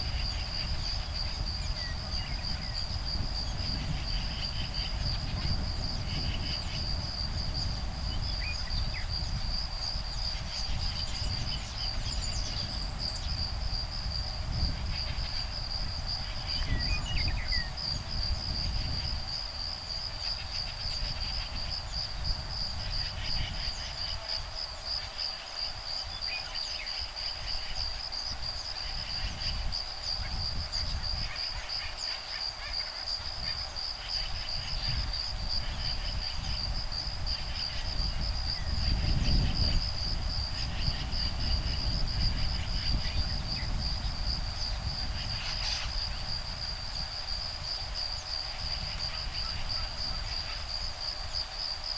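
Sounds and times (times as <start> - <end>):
breeze rumbling on microphone: 0.0 - 51.9
buzzy insect chatter: 0.0 - 51.9
high pulsing insect trill: 0.0 - 51.9.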